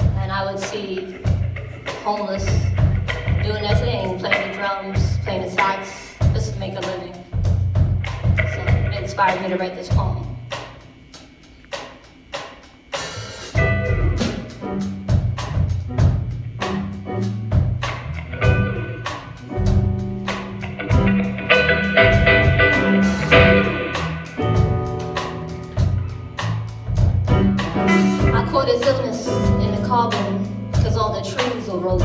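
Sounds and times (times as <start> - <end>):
jazz band playing: 0.0 - 11.9, 13.0 - 32.0.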